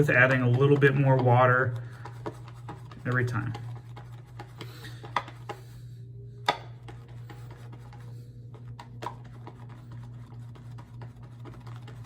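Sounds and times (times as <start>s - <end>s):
brush whisking lather in bowl: 0.0s - 5.8s, 6.5s - 12.0s.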